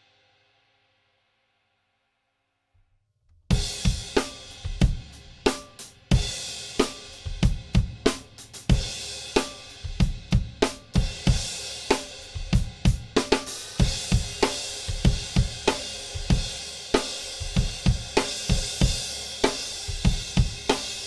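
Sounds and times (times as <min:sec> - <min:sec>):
kick and snare drum beat: 0:03.5 - 0:21.0.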